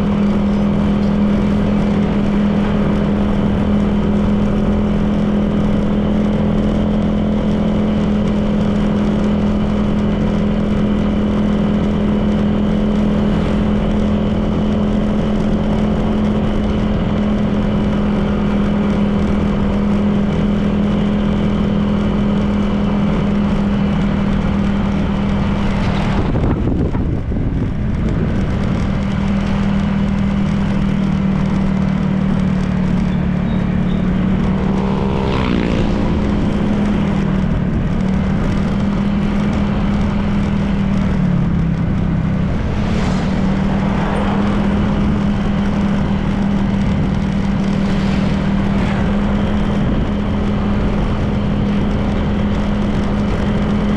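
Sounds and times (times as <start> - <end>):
road and wind noise: 0.0 - 53.9
scooter engine cruising: 0.0 - 53.9.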